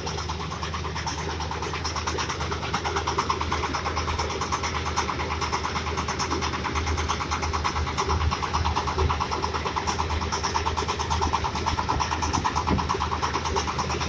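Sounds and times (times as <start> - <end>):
single-cylinder diesel engine running: 0.0 - 14.0.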